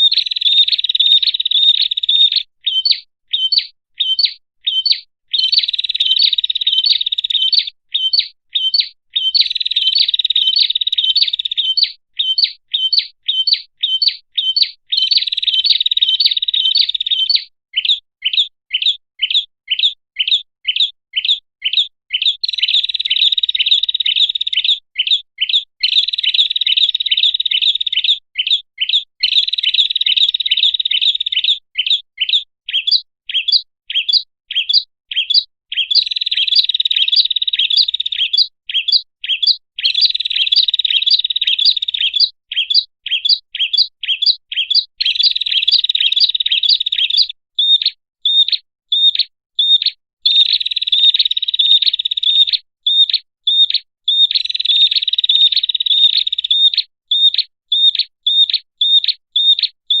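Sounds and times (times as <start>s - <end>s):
bird high chirps and trills: 0.0s - 60.0s.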